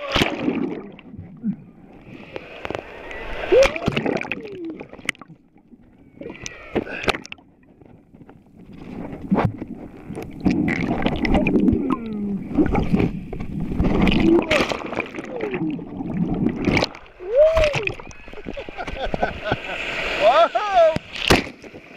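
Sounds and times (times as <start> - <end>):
churning rush of water: 0.0 - 7.4, 10.2 - 21.7
muffled underwater gurgling: 0.0 - 7.8, 8.9 - 19.6.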